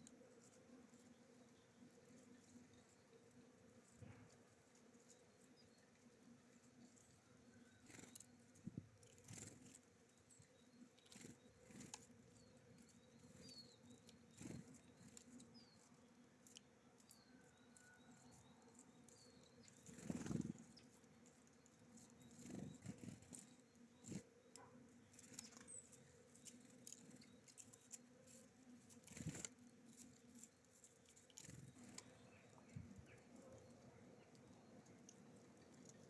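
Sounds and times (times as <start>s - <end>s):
birds chirping faintly: 0.0s - 36.0s
rustle: 0.0s - 36.0s.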